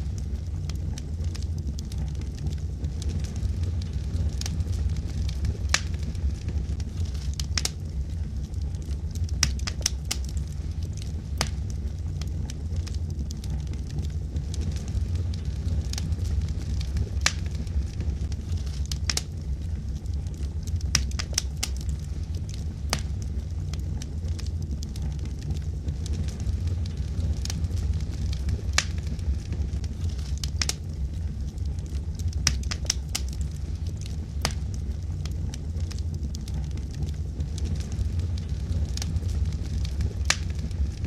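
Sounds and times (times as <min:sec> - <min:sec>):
burning wood crackling and popping: 0:00.0 - 0:41.0
fireplace flames rumbling: 0:00.0 - 0:41.0.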